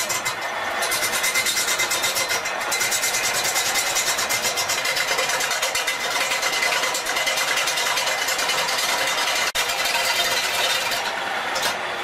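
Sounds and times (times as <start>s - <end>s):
wood lathe whirring: 0.0s - 12.0s.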